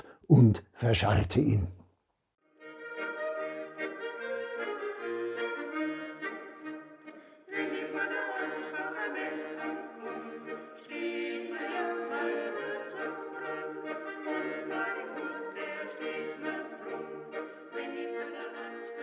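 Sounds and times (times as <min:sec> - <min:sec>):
background music: 0:02.5 - 0:19.0.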